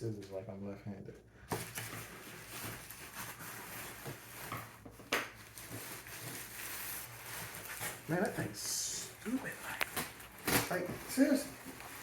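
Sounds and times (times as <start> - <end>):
plastic and cardboard rustling: 1.5 - 12.0.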